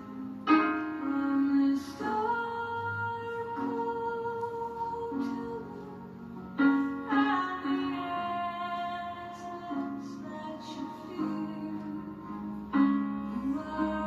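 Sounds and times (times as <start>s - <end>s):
soft instrumental accompaniment: 0.0s - 14.0s
woman singing: 0.8s - 6.2s, 7.0s - 14.0s.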